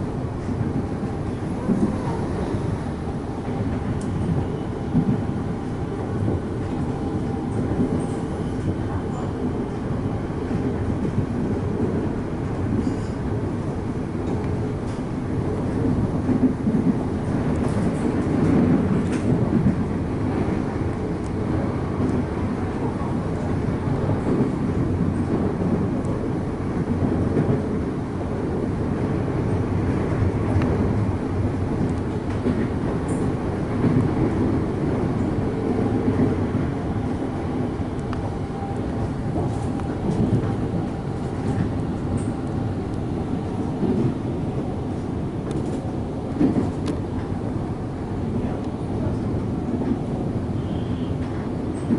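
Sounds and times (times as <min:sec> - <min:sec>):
train wheels rumbling on rail: 0:00.0 - 0:51.9.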